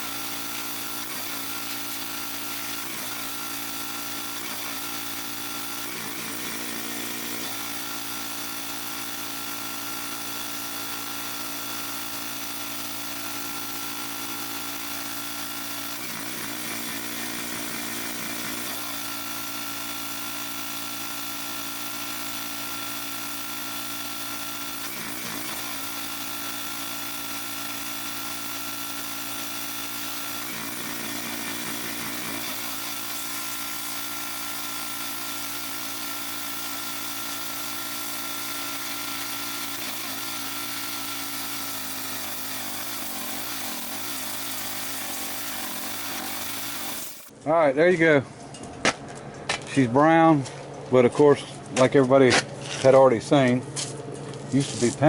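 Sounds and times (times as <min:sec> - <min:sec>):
pressure washer engine and pump: 0:00.0 - 0:47.5.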